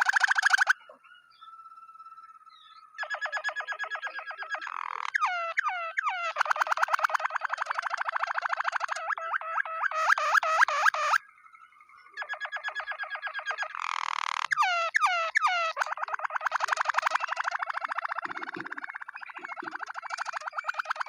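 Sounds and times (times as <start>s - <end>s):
canary singing trills: 0.0s - 21.0s.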